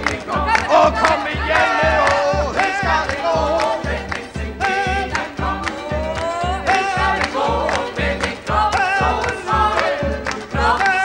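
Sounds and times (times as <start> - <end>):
choir singing gospel song: 0.0 - 11.0
steady bass beat: 0.0 - 11.0.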